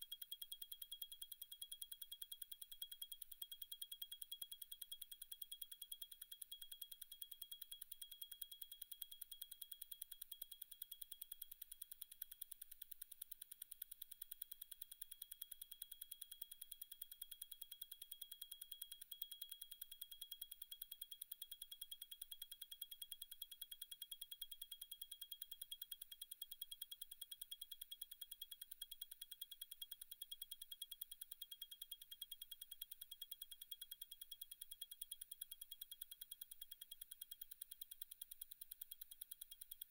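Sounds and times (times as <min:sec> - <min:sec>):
rapid watch ticking: 0:00.0 - 0:39.9.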